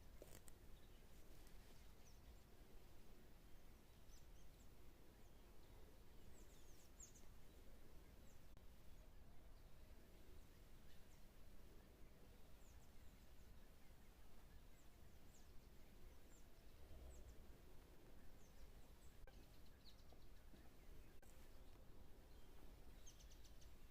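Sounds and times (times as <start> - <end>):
low outdoor background rumble: 0.0 - 23.9
faint bird chirps: 0.3 - 23.9.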